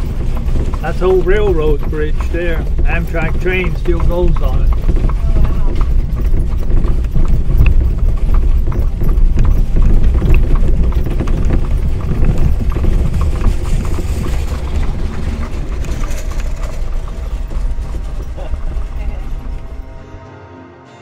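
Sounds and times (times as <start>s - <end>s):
horse hooves clip-clopping on asphalt: 0.0s - 20.1s
buggy wheels rumbling: 0.0s - 20.3s
horse and cart passing: 0.0s - 20.3s.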